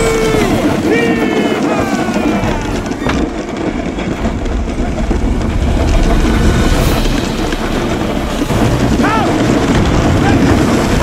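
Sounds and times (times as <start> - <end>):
avalanche rumbling: 0.0 - 11.0.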